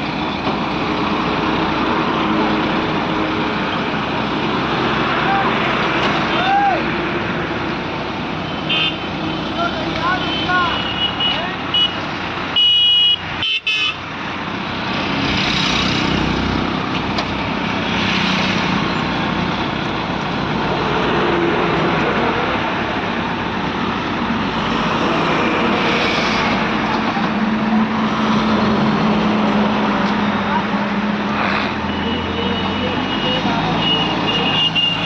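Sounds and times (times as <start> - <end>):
diesel crane engines running: 0.0 - 35.0.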